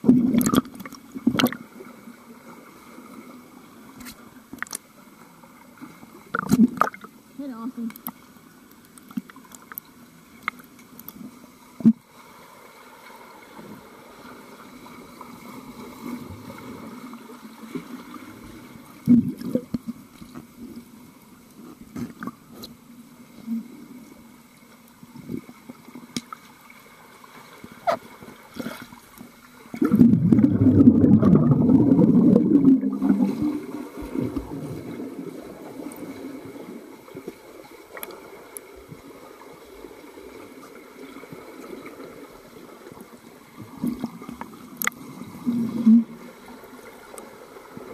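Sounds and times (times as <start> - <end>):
muffled underwater wash: 0.0 - 47.9
swimmer churning water: 0.0 - 47.9.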